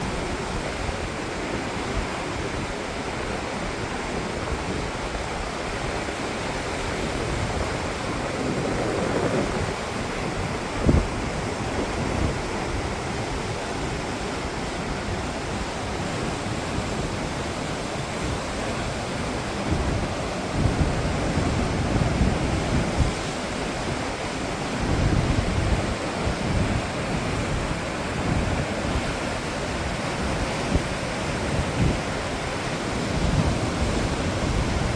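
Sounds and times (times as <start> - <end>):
river rapids rushing: 0.0 - 34.9
wind buffeting microphone: 0.0 - 34.9.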